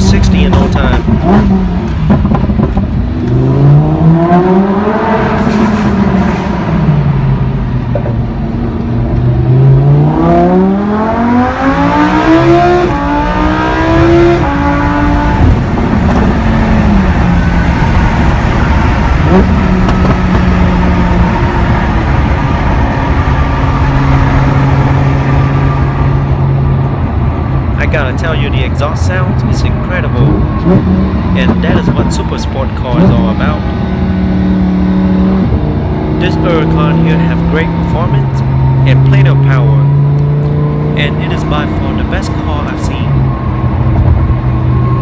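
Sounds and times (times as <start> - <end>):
sports car accelerating hard: 0.0 - 45.0.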